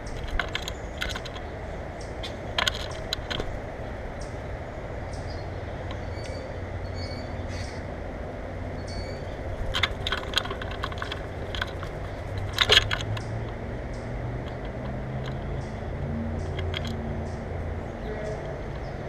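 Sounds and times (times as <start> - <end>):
birds clicking and tapping: 0.0 - 7.8, 8.7 - 19.0.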